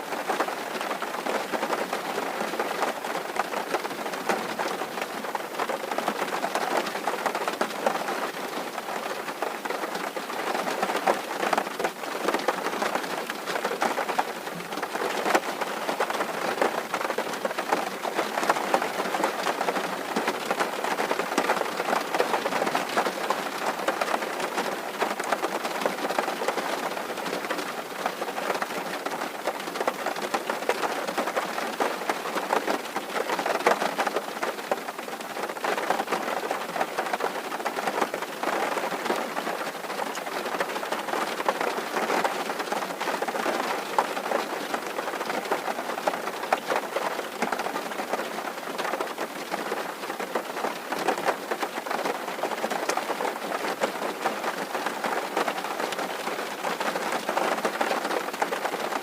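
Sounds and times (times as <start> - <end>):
rain on a tin roof: 0.0 - 59.0.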